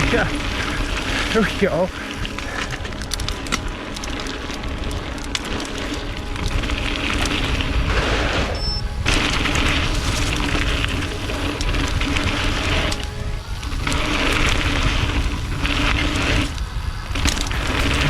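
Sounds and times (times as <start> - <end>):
bike tyres rolling on dirt: 0.0 - 18.0
wind rumbling on microphone: 0.0 - 18.0.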